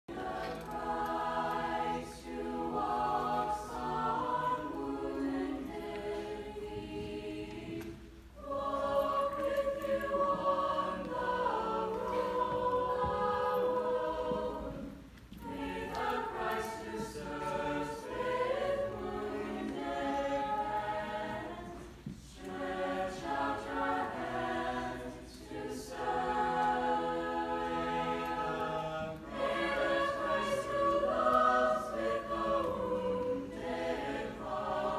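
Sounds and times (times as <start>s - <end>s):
choir singing: 0.1s - 34.9s.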